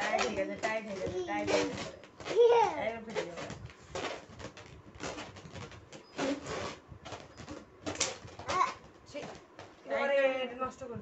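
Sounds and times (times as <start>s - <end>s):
balloon rubbing squeaks: 0.2s - 9.5s.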